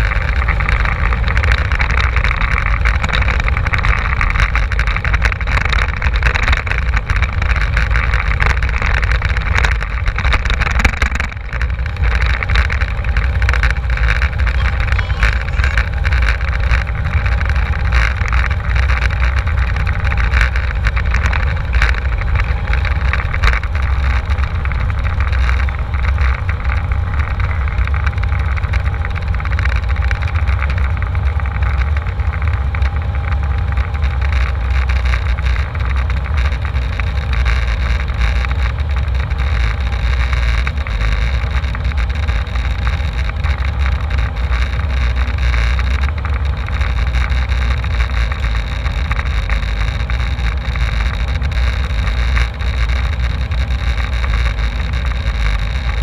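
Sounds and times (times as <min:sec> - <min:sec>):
faint whining tones: 0:00.0 - 0:56.0
jet engine low rumble: 0:00.0 - 0:56.0.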